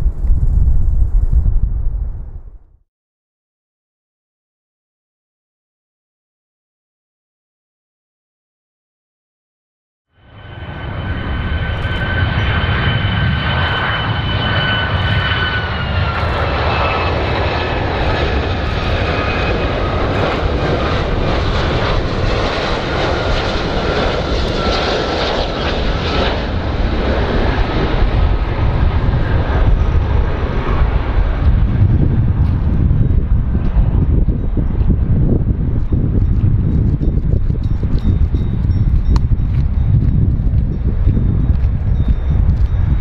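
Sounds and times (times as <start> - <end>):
jet engine rumble and whine: 0.0 - 2.7, 10.2 - 43.0.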